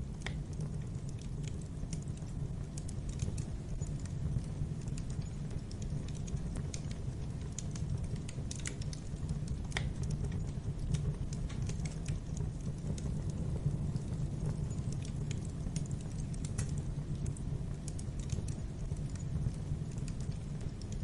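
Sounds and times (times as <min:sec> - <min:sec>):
low rumble of fire: 0:00.0 - 0:21.0
wood fire crackling and popping: 0:00.0 - 0:21.0.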